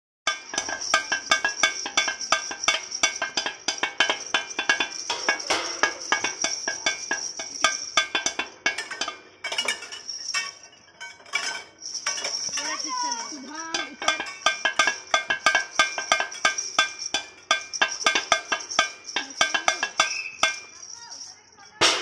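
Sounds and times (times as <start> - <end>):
metal pipes and plates clanging: 0.3 - 22.0.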